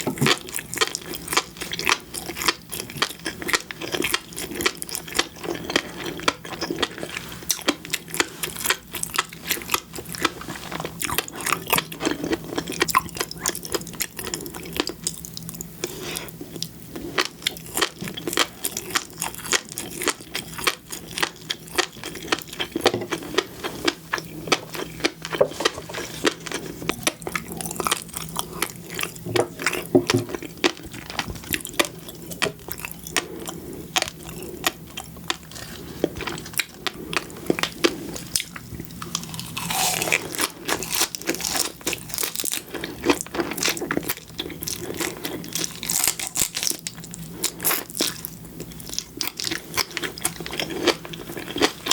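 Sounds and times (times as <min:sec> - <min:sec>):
person chewing and biting food: 0:00.0 - 0:51.9.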